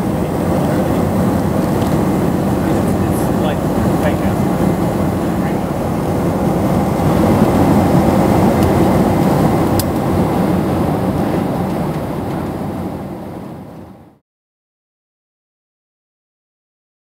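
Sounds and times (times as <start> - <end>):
jet engine and airflow rumble: 0.0 - 14.2.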